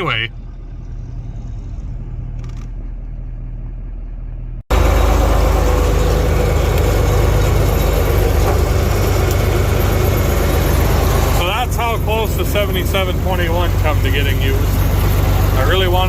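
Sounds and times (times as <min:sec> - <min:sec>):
heavy engine running: 0:00.0 - 0:16.0
loud engine running close by: 0:00.0 - 0:16.0.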